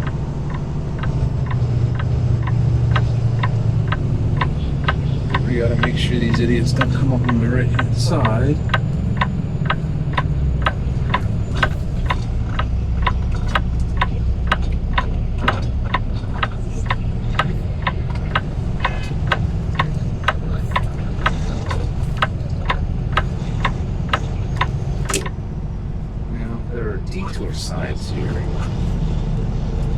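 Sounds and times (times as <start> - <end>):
turn-signal flasher ticking: 0.0 - 26.3
truck engine running: 0.0 - 29.9.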